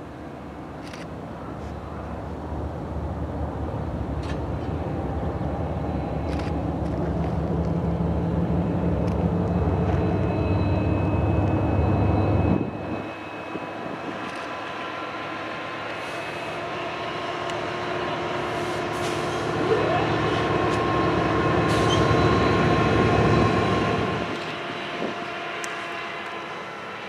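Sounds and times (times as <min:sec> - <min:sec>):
train rolling on rails: 0:00.0 - 0:27.0
locomotive engine rumble: 0:01.5 - 0:27.0.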